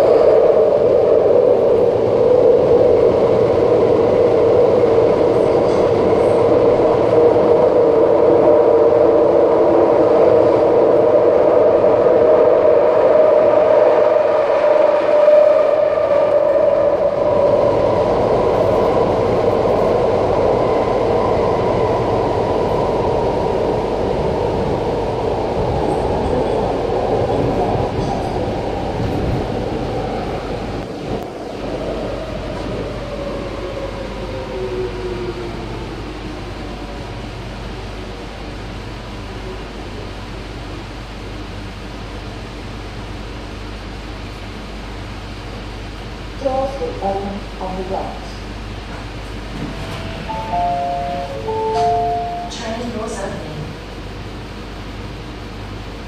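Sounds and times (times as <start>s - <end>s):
metro train rumbling through tunnel: 0.0s - 56.0s.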